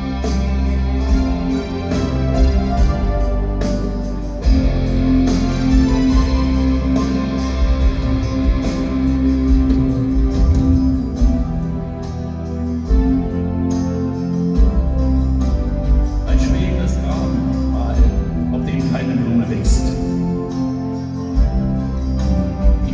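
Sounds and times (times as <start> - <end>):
bass guitar: 0.0 - 22.9
drums: 0.0 - 22.9
guitars: 0.0 - 22.9.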